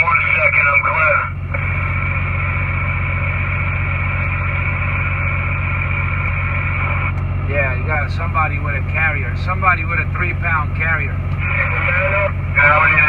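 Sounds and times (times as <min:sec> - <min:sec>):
low hum: 0:00.0 - 0:13.0
radio static hiss: 0:00.0 - 0:13.0.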